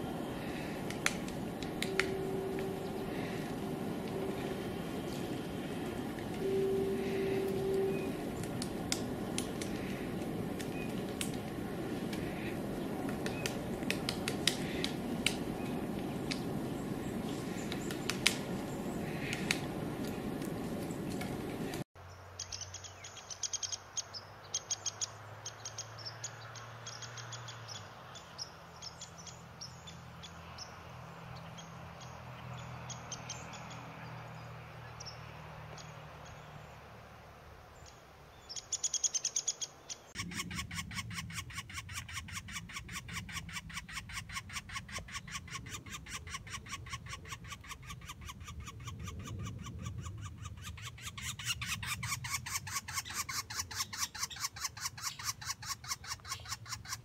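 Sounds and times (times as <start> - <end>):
birds chirping: 0.0 - 36.8, 37.7 - 57.0.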